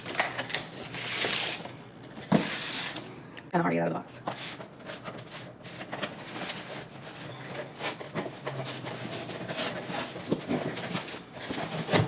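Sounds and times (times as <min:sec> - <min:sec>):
cardboard rustling and scraping: 0:00.0 - 0:03.1, 0:04.2 - 0:12.0.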